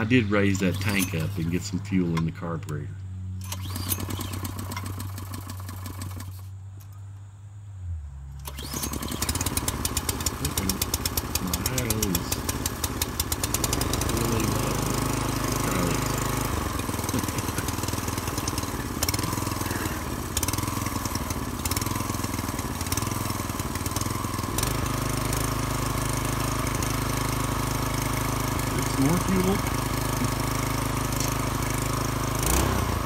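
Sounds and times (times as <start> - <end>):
single-cylinder engine running: 0.0 - 6.9, 8.3 - 33.0.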